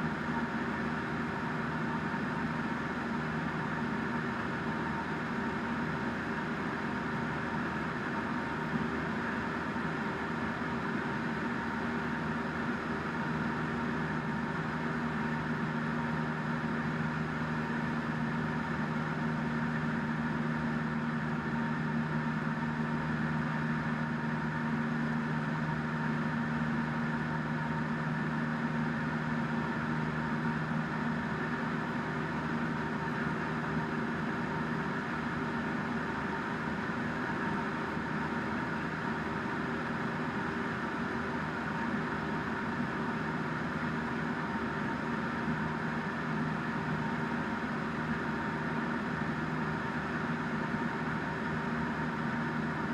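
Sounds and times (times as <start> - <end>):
light aircraft engine drone: 0.0 - 52.9.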